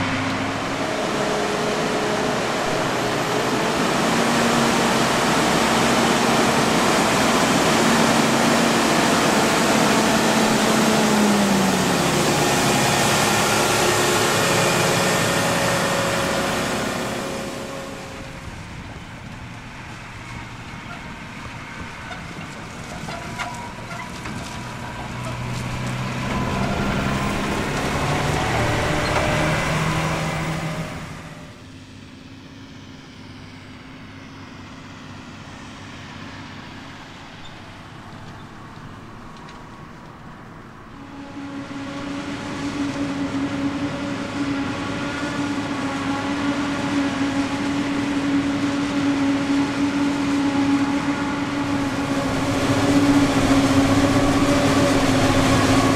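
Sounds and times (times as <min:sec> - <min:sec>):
diesel farm machinery engines: 0:00.0 - 0:55.9.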